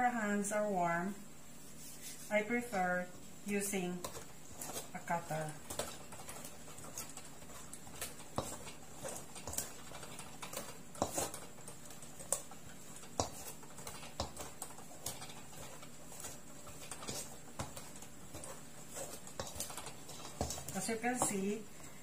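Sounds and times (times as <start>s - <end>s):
pastry blender clicking and scraping bowl: 3.8s - 21.6s.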